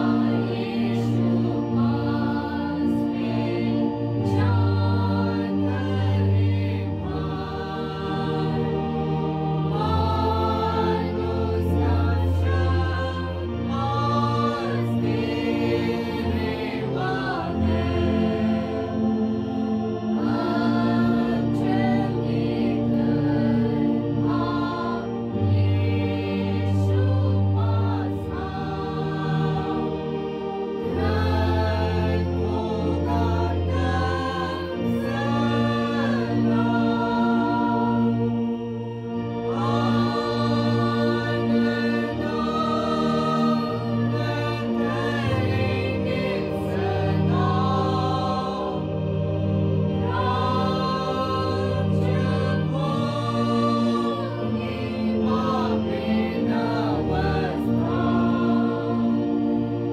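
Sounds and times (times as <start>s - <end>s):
choir singing a hymn: 0.0s - 59.9s
steady low tones: 0.0s - 59.9s.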